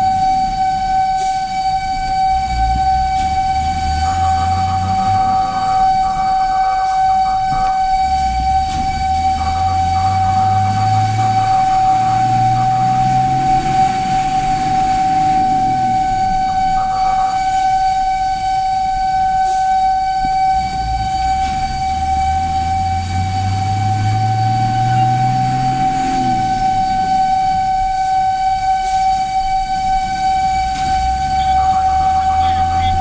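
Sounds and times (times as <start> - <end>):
truck engine accelerating: 0.0 - 19.6, 20.2 - 33.0
fire engine siren steady tone: 0.0 - 33.0.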